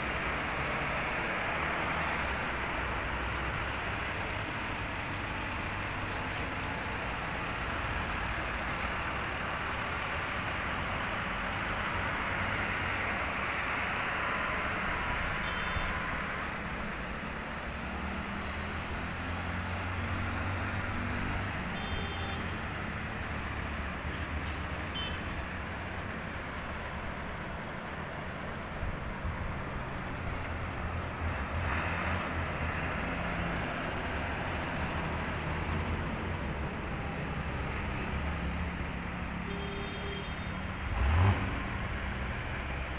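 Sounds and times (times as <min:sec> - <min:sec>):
low traffic rumble: 0:00.0 - 0:42.9
vehicles running on roads: 0:00.0 - 0:42.9.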